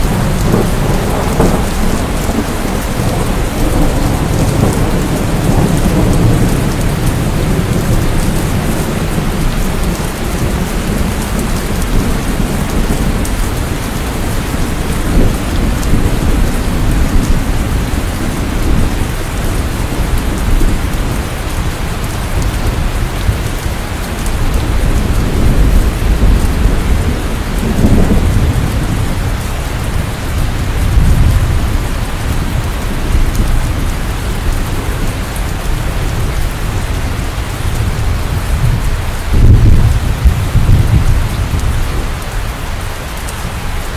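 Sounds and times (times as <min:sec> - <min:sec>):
heavy rain: 0:00.0 - 0:43.9
low thunder rumbles: 0:00.0 - 0:43.9.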